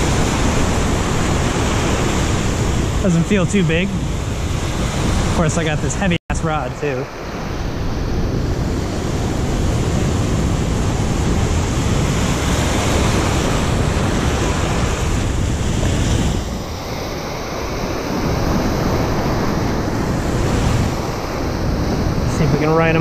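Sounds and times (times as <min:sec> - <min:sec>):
ocean surf breaking over rocks: 0:00.0 - 0:23.0
wind buffeting microphone: 0:00.0 - 0:23.0.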